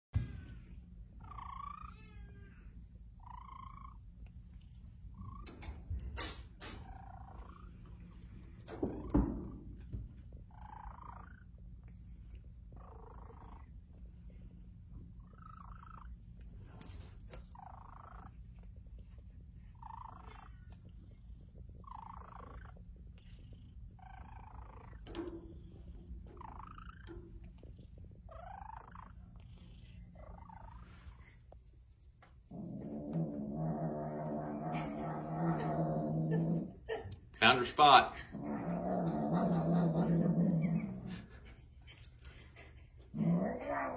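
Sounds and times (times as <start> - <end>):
cat purring: 1.0 - 2.2, 3.0 - 43.9.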